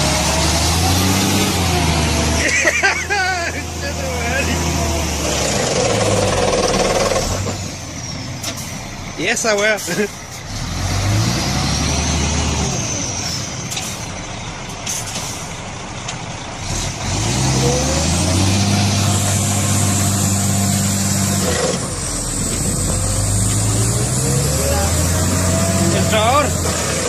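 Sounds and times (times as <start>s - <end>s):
truck engine revving: 0.0s - 15.8s, 16.4s - 27.0s.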